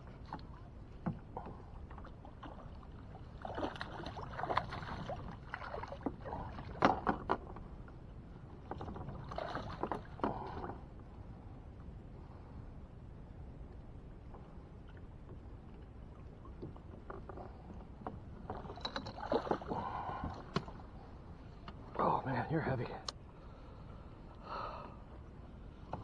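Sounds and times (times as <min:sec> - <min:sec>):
water splashing around boat: 0:00.0 - 0:26.0.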